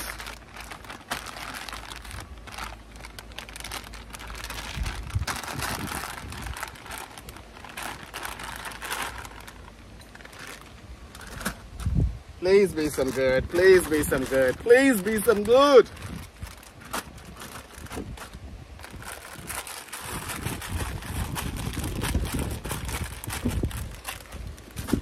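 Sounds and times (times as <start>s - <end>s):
plastic bags crinkling: 0.0s - 11.8s, 12.5s - 25.0s.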